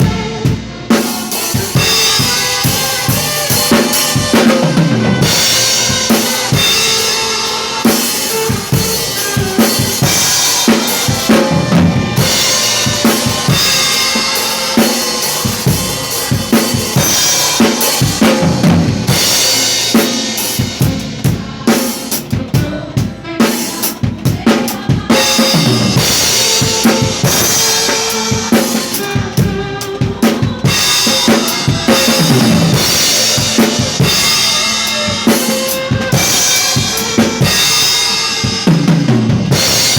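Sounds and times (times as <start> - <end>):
drum kit playing a groove: 0.0 - 39.9
gospel song backing music: 0.0 - 39.9.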